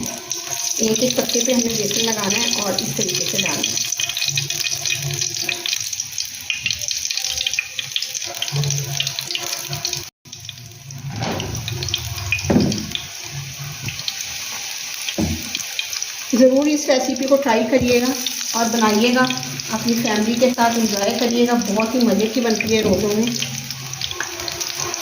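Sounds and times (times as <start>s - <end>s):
leaves deep-frying in oil: 0.0s - 25.0s.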